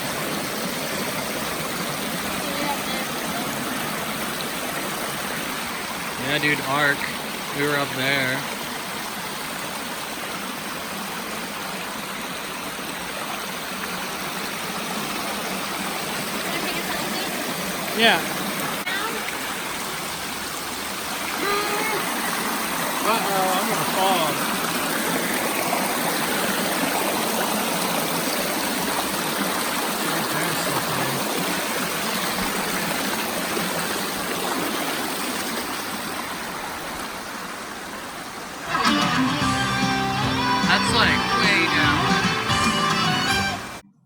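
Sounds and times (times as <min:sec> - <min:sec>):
creek water rushing: 0:00.0 - 0:43.8.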